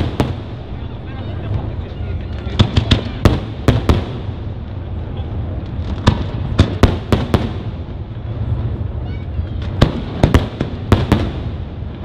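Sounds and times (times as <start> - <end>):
firework bangs: 0.0 - 12.0
low rumble: 0.0 - 12.0.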